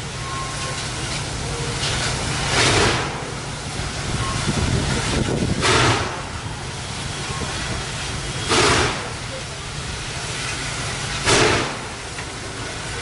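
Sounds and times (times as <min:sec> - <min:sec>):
low rumble of engine and wheels: 0:00.0 - 0:13.0
steam locomotive exhaust chuffs: 0:00.0 - 0:13.0.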